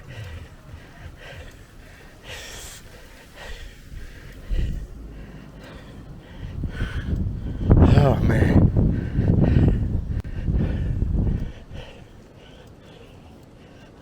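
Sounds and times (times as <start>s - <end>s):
wind rumbling on microphone: 0.0s - 12.4s
man breathing hard: 0.0s - 14.0s.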